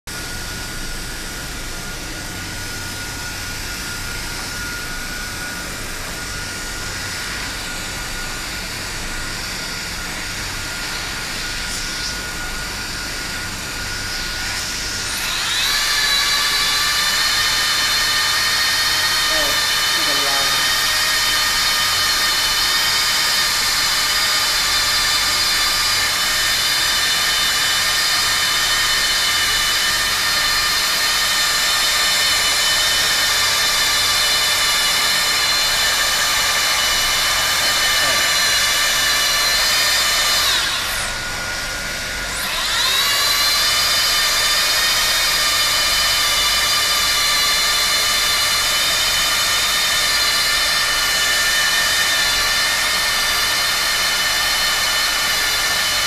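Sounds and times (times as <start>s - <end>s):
plastic welding machine whine: 0.1s - 56.0s.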